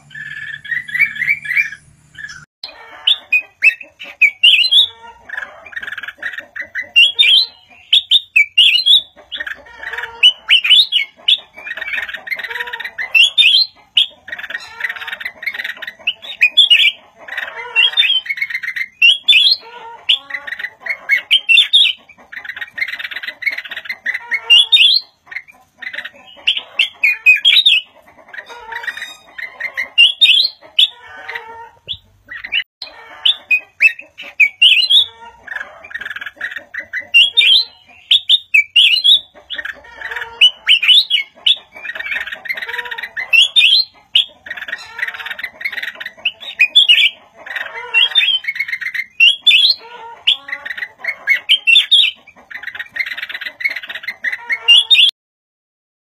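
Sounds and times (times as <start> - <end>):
bird singing warbled phrases: 0.0 - 55.2.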